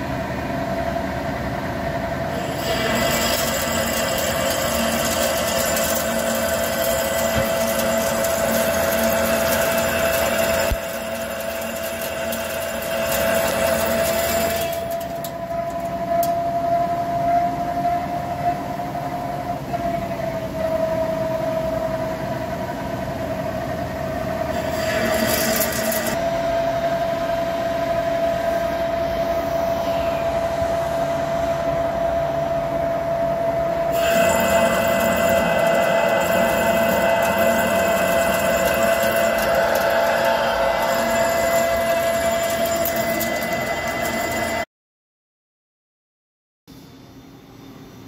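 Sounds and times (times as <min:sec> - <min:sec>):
lathe cutting with steady whine: 0:00.0 - 0:44.7.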